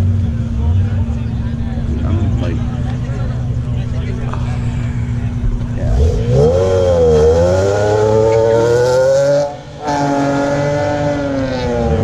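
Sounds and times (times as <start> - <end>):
sports car engine revving: 0.0 - 12.0.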